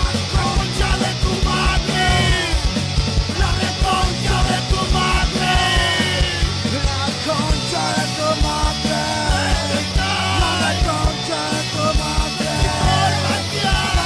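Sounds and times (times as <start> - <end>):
driving drum beat: 0.0 - 14.0
punk rock song with vocals: 0.0 - 14.0.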